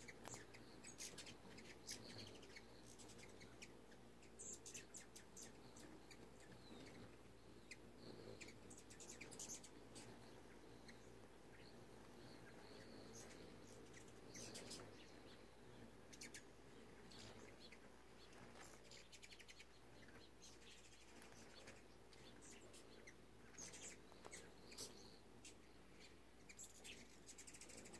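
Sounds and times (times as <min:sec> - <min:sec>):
hummingbird chip calls: 0:00.0 - 0:27.9.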